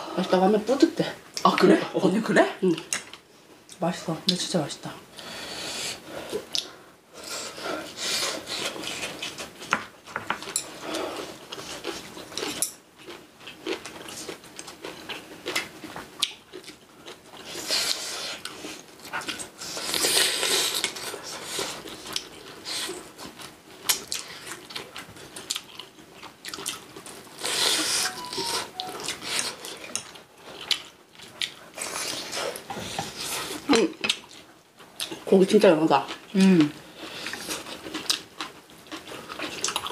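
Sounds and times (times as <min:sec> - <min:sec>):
chewing food: 0:06.3 - 0:39.9.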